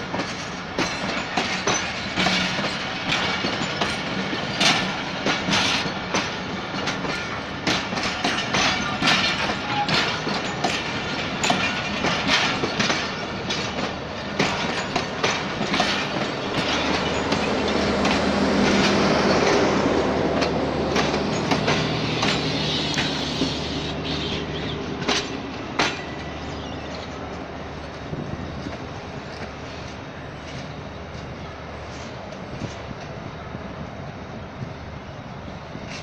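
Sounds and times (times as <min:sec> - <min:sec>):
train wheels clicking over rail joints: 0:00.0 - 0:33.8, 0:35.6 - 0:36.0.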